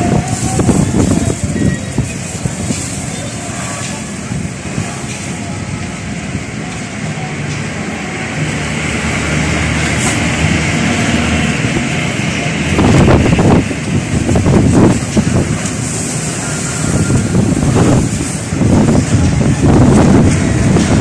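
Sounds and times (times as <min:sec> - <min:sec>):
engine running with low hum: 0:02.8 - 0:21.0.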